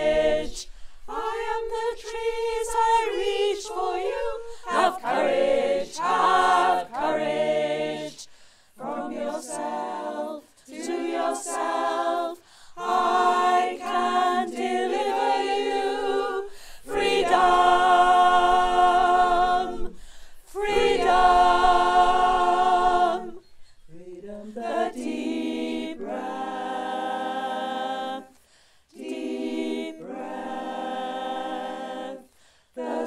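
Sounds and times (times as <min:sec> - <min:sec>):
choir singing in harmony: 0:00.0 - 0:33.0.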